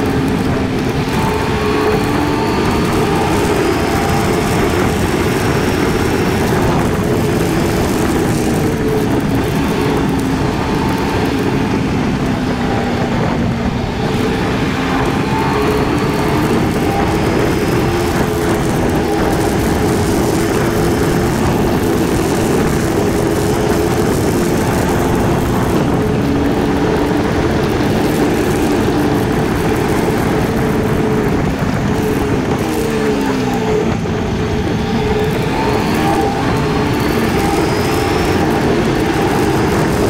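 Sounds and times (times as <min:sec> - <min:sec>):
motorcycle engine running: 0:00.0 - 0:40.0
wind on microphone: 0:00.0 - 0:40.0.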